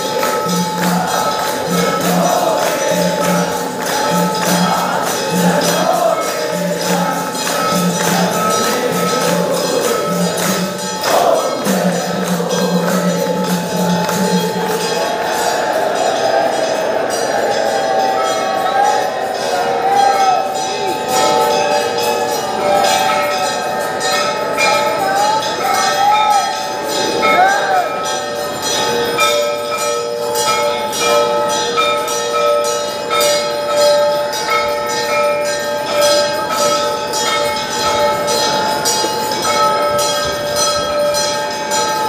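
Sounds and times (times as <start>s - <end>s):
crowd voices: 0.0s - 42.0s
temple bells clanging: 0.0s - 42.0s.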